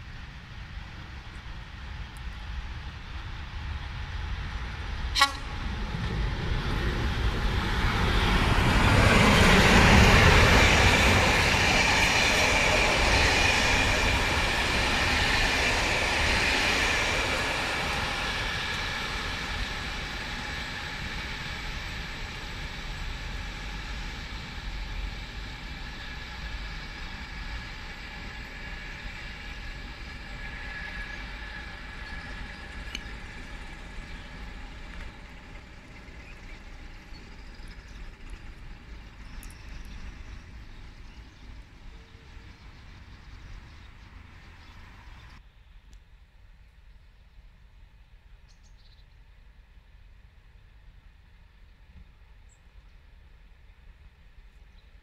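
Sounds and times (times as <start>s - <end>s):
train wheels rumbling on rails: 0.0s - 45.4s.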